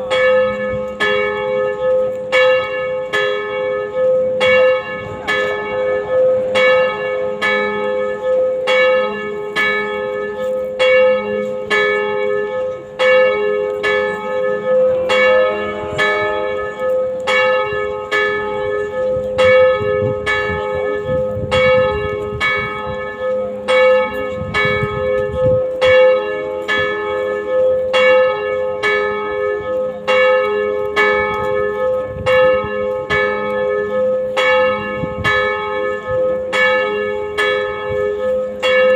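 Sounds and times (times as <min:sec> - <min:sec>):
church bells tolling: 0:00.0 - 0:38.9.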